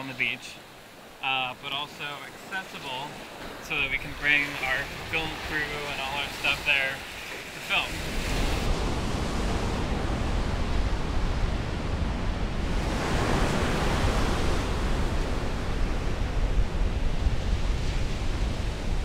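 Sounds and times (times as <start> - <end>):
ocean surf: 0.0 - 19.0
wind: 0.0 - 19.0.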